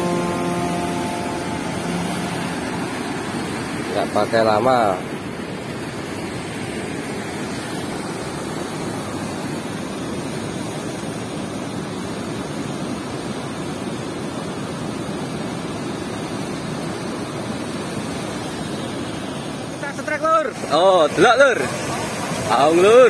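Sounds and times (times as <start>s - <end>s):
water rushing through sluice gates: 0.0s - 23.0s.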